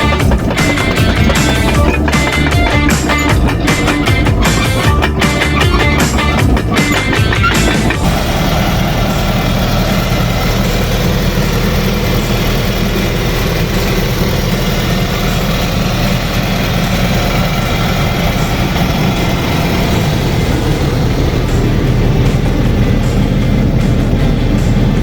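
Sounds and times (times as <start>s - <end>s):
diesel excavator engine idling: 0.0s - 25.0s.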